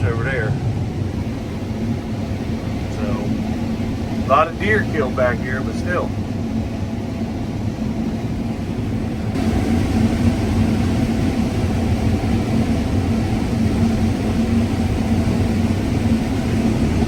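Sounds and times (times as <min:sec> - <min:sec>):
combine harvester droning: 0:00.0 - 0:17.0.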